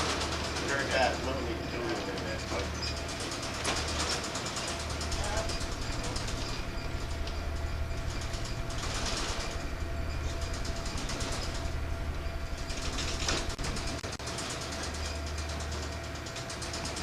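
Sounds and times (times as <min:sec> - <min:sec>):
fast even pulsing: 0:00.0 - 0:15.9
ferry engines droning: 0:00.0 - 0:17.0.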